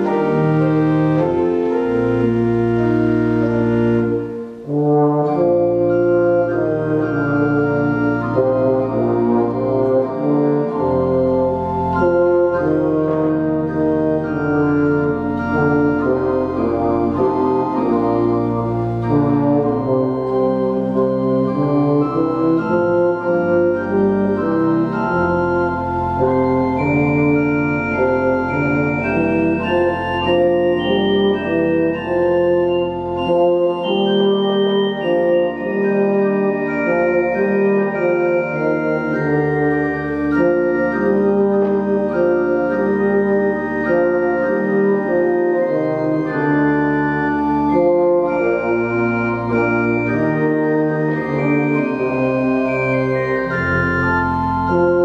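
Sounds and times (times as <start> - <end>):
deep organ pedal bass: 0.0 - 55.0
euphonium playing: 0.0 - 55.0
organ chords: 0.0 - 55.0.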